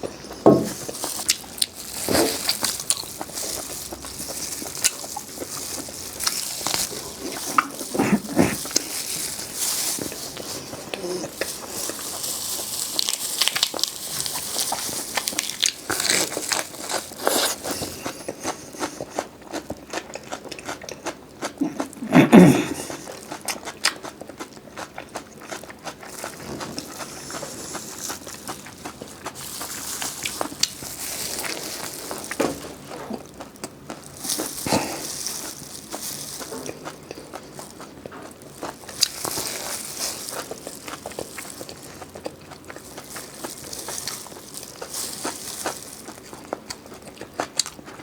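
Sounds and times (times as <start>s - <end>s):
crunching and wet chewing: 0.0s - 48.0s.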